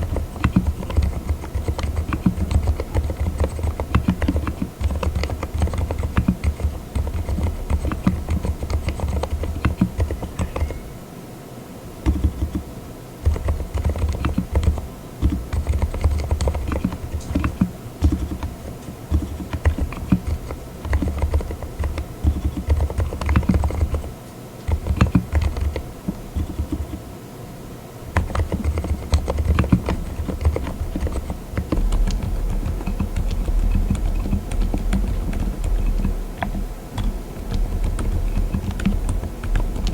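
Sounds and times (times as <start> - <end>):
soft keyboard keystrokes: 0.0 - 11.0, 12.1 - 27.0, 28.2 - 39.9.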